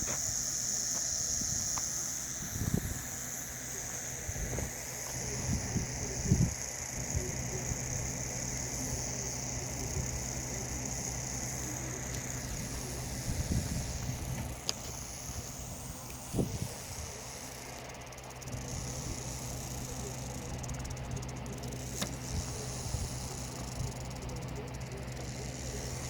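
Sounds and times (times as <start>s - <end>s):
low steady hum: 0.0s - 26.0s
rattlesnake rattling: 0.0s - 26.0s.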